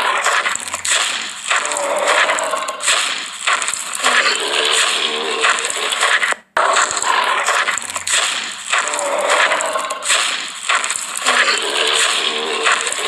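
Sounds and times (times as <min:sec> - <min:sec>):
crunching scraping footsteps: 0:00.0 - 0:13.0.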